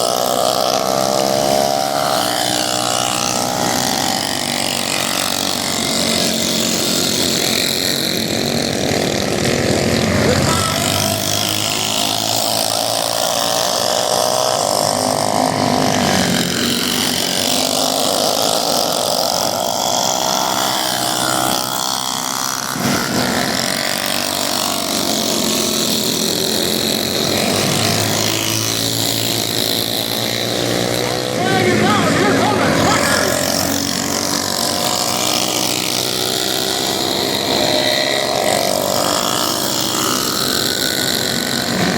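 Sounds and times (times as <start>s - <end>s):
minibike engines racing: 0.0s - 41.9s.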